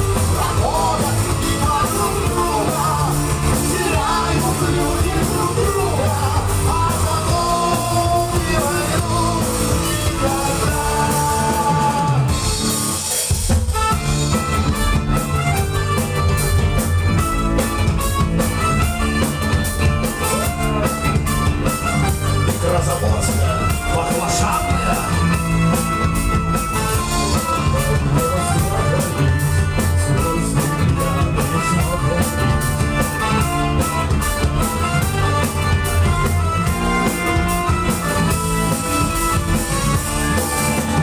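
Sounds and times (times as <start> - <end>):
rock band playing live: 0.0 - 41.0.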